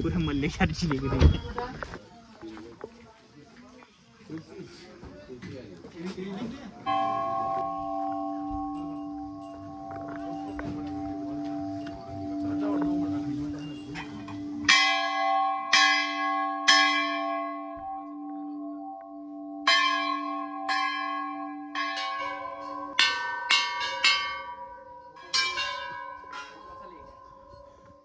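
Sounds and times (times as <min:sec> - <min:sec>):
brass bells ringing: 0:00.0 - 0:01.6, 0:06.8 - 0:28.0.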